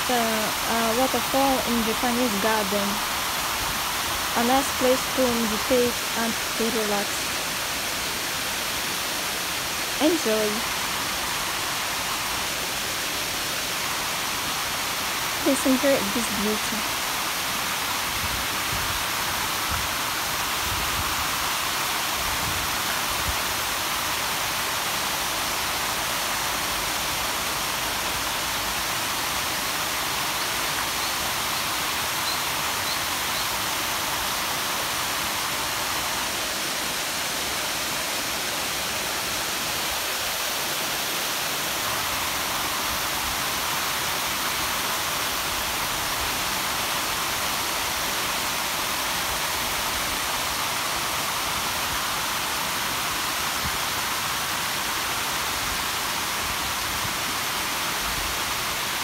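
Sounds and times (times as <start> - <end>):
waterfall splashing into pond: 0.0 - 59.0.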